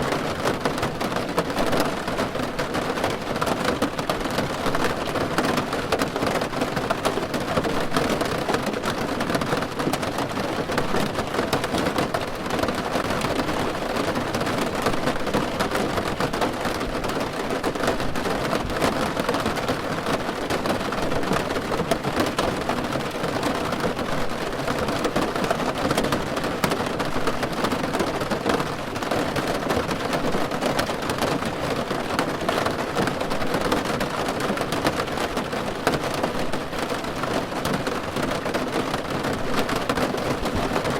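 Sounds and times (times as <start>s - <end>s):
rain on a car roof: 0.0s - 40.9s.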